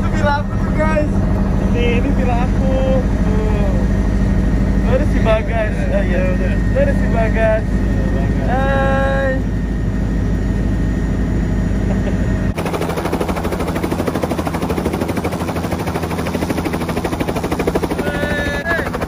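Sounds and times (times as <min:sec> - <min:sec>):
helicopter low drone: 0:00.0 - 0:19.0
helicopter rotor chop: 0:00.0 - 0:19.0.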